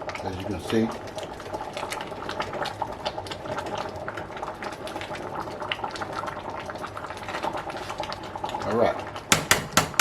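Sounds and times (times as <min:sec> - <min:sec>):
soup simmering and bubbling: 0:00.0 - 0:10.0.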